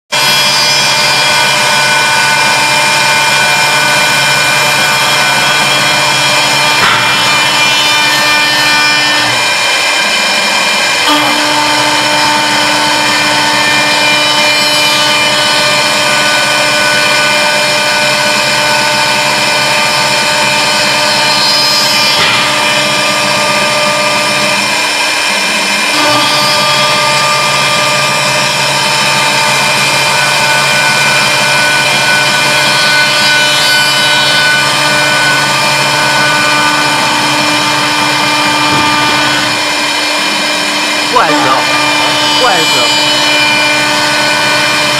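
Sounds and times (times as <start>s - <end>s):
wood lathe machine whine: 0.1s - 44.9s.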